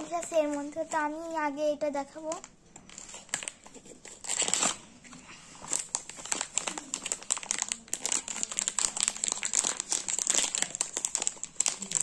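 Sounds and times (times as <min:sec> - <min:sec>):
plastic bag crinkling: 0:02.2 - 0:12.0.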